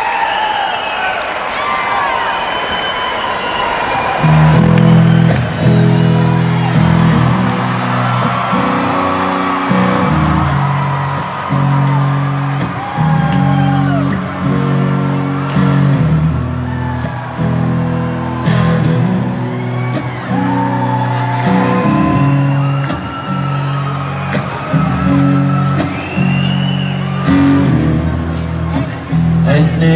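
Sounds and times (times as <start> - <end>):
crowd whooping and cheering: 0.0 - 29.9
electric guitar chords: 4.2 - 29.9
rock band playing live: 4.2 - 29.9.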